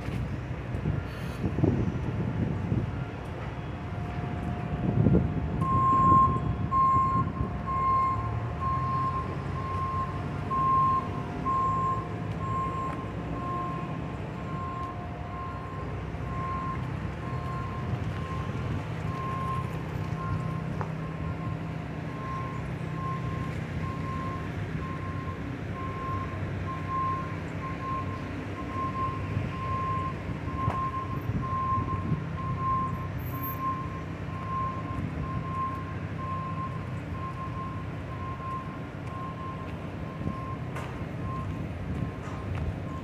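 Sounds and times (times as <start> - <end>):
low engine rumble: 0.0 - 43.0
vehicle backup alarm beeping: 2.1 - 43.0.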